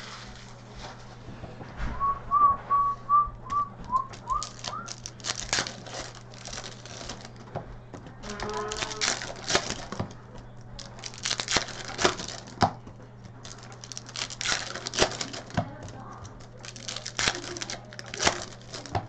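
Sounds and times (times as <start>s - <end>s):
wrappers crinkling and tearing: 0.0s - 1.0s, 3.8s - 19.0s
steady low hum: 0.0s - 19.0s.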